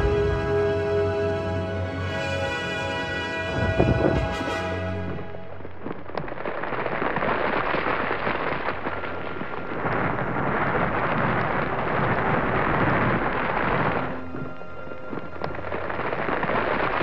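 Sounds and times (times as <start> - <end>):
crackling thunder roll: 0.0 - 1.0, 3.5 - 17.0.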